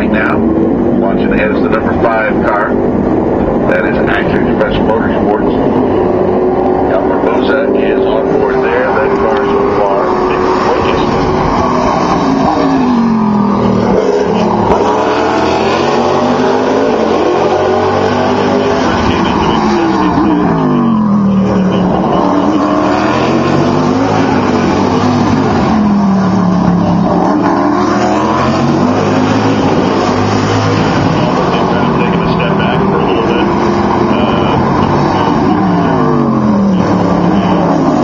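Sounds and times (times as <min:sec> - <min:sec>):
race cars braking and accelerating: 0:00.0 - 0:38.0.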